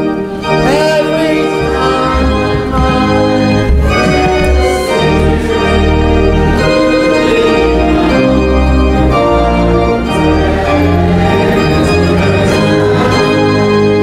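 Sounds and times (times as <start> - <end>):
organ playing sustained chords: 0.0 - 14.0.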